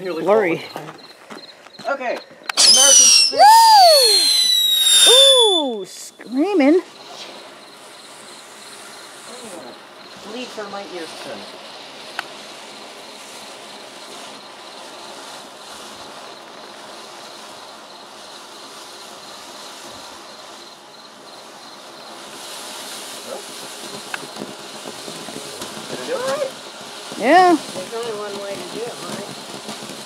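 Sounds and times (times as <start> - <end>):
firework crackles: 0.0 - 30.0
firework fountain hissing: 0.0 - 30.0.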